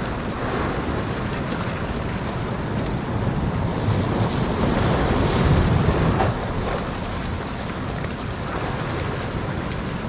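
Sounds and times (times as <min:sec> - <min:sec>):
waves washing on rocks: 0:00.0 - 0:10.0
wind buffeting microphone: 0:00.0 - 0:10.0.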